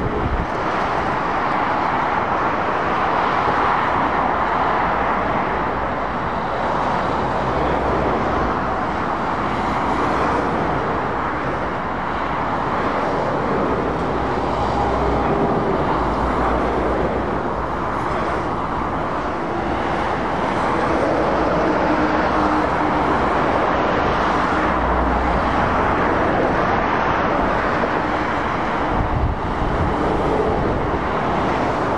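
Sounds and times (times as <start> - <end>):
cars and lorries passing: 0.0 - 31.9
tyre noise on road: 0.0 - 31.9.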